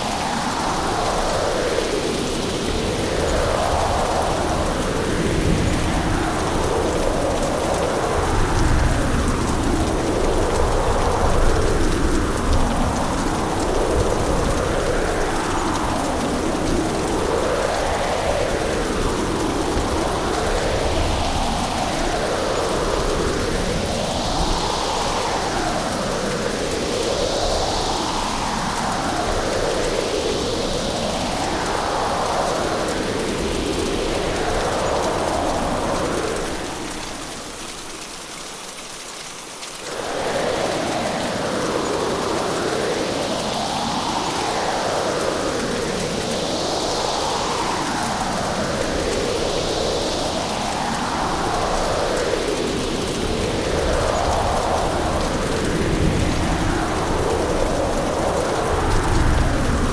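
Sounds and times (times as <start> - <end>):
heavy rain: 0.0 - 59.9
wind: 0.0 - 59.9.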